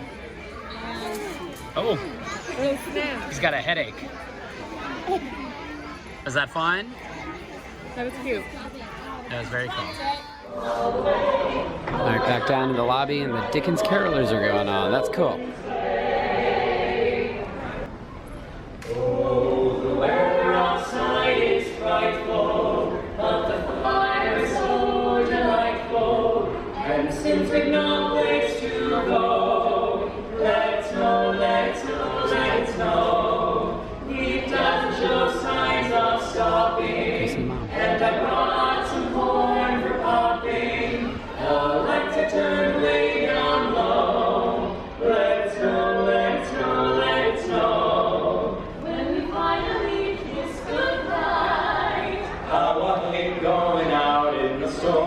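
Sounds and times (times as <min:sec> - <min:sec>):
carolers singing a cappella: 0:07.6 - 0:17.9, 0:18.8 - 0:55.0.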